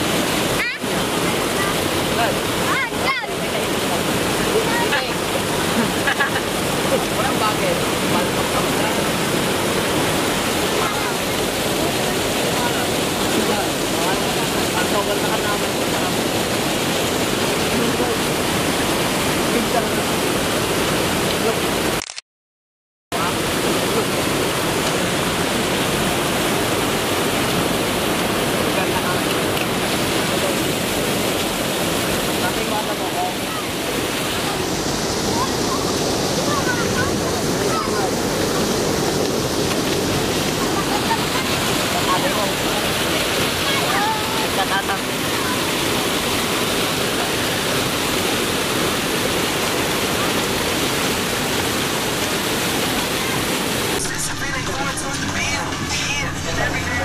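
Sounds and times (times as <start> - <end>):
loud steady rushing noise: 0.0 - 21.8, 23.1 - 57.0.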